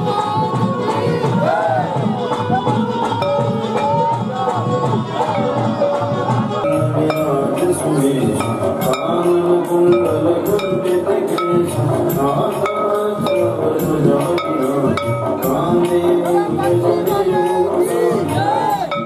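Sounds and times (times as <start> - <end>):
devotional singing: 0.0 - 19.0
clinking percussion: 2.2 - 19.0.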